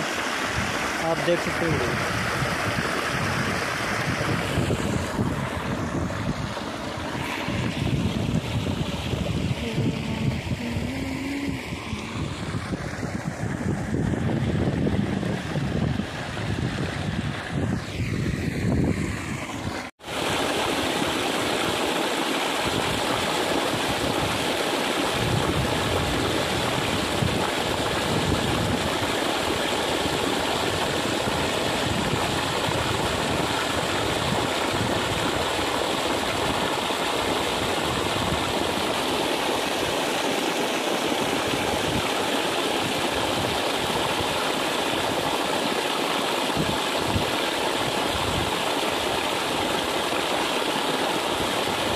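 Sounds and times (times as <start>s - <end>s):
water gushing from hose onto soil: 0.0s - 51.9s.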